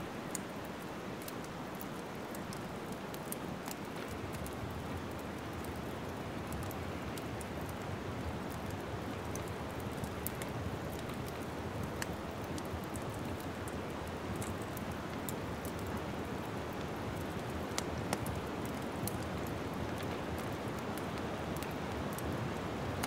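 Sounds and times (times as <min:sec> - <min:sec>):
wood fire crackling: 0:00.1 - 0:23.0.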